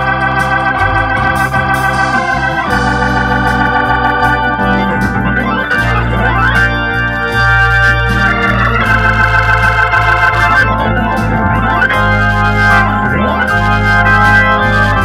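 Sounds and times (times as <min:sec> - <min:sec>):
organ playing a slow ballad: 0:00.0 - 0:15.0.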